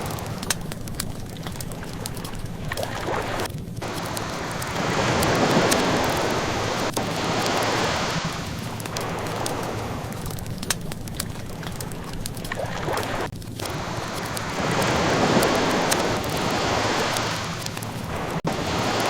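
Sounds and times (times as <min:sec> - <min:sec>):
ocean waves washing in: 0:00.0 - 0:19.0
wood fire crackling and popping: 0:00.0 - 0:19.0.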